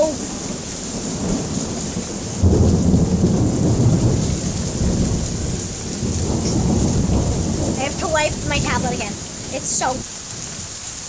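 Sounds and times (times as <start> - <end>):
thunder rumbling: 0.0 - 10.7
heavy rain falling: 0.0 - 11.0.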